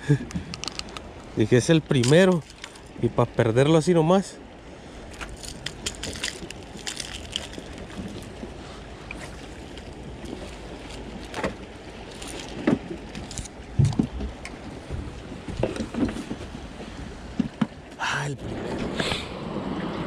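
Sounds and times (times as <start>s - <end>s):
wind and water rushing: 0.0s - 20.0s.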